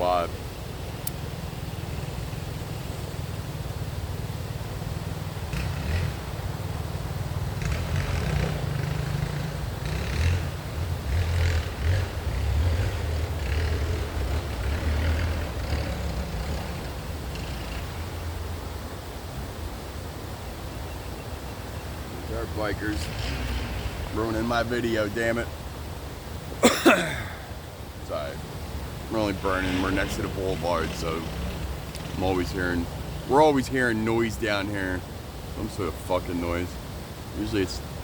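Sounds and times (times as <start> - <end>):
dirt bike and quad engines passing: 0.0 - 19.2, 21.8 - 38.0.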